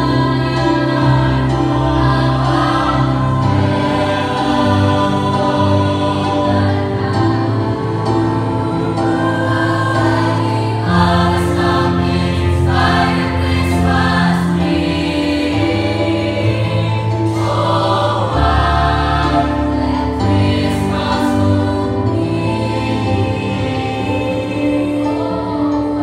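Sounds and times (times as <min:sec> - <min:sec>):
mixed choir singing in harmony: 0:00.0 - 0:26.0.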